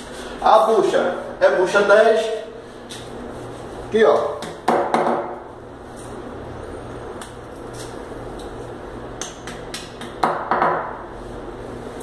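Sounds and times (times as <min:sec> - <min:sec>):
steady hiss and low hum: 0:00.0 - 0:12.0.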